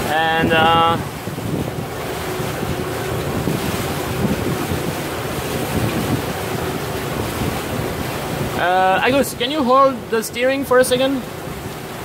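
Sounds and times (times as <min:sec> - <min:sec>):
water rushing along boat hull: 0:00.0 - 0:12.0
wind buffeting microphone: 0:00.0 - 0:12.0.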